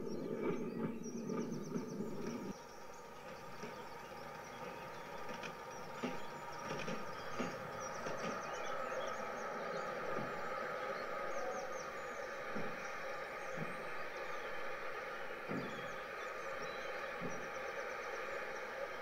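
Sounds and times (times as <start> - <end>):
small birds chirping: 0.0 - 19.0
train hum and rushing: 0.0 - 19.0.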